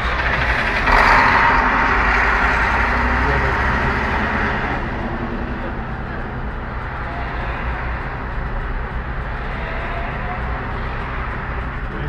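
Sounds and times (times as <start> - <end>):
car engine idling: 0.0 - 12.0
road noise: 0.0 - 12.0.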